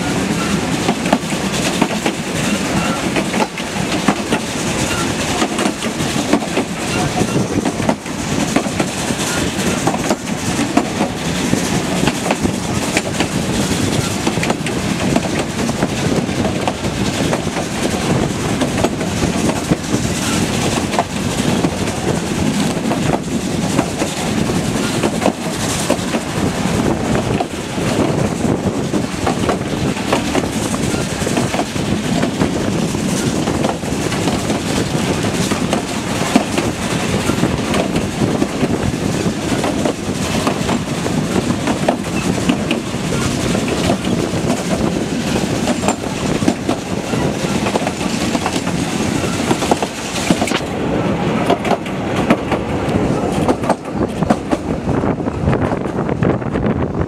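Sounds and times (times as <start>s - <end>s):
track clicks and knocks: 0.0s - 54.7s
train wheels rumbling on rails: 0.0s - 57.0s.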